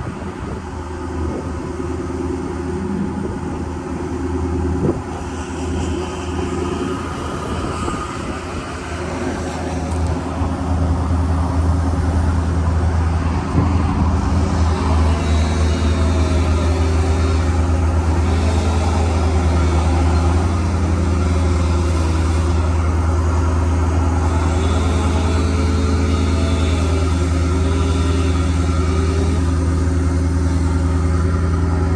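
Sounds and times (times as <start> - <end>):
diesel truck engine droning: 0.0 - 31.9.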